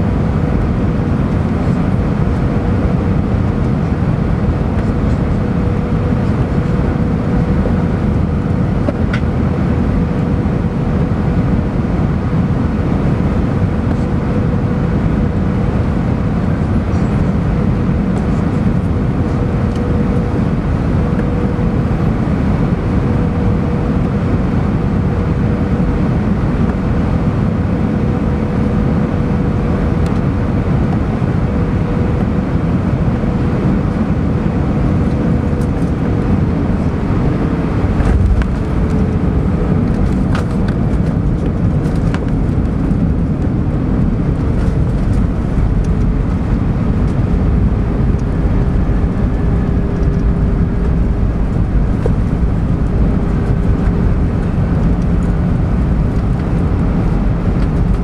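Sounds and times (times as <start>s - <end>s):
jet engine hum: 0.0s - 58.0s
rattling and rumbling on runway: 0.0s - 58.0s.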